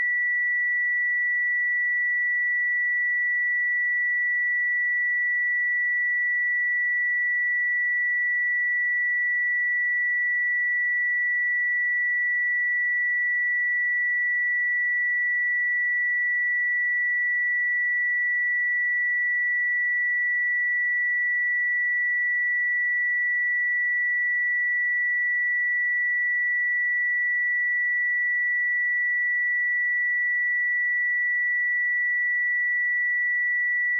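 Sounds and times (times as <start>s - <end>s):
high sine-wave test tone: 0.0s - 33.9s.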